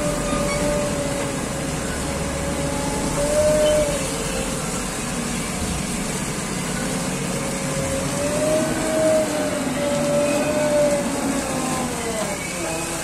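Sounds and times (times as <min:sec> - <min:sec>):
diesel engine running: 0:00.0 - 0:13.0
water spraying hiss: 0:00.0 - 0:13.0.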